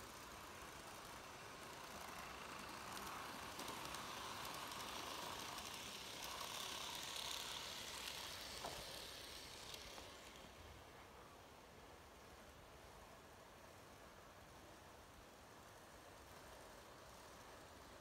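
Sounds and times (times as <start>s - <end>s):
model trains whirring: 0.0s - 18.0s.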